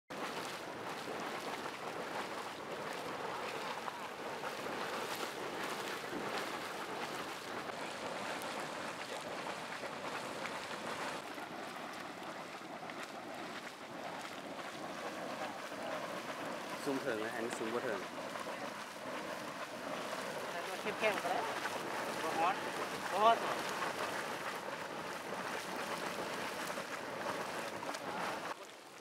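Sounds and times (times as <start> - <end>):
bubbling water splashing: 0.1 - 29.0.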